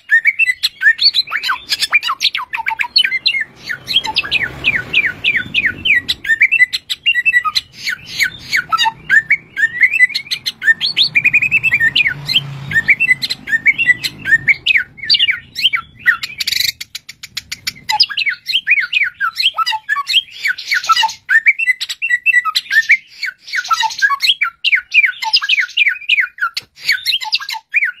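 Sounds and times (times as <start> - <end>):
bird singing whistled notes: 0.0 - 28.0
harsh scratchy bird calls: 0.0 - 28.0.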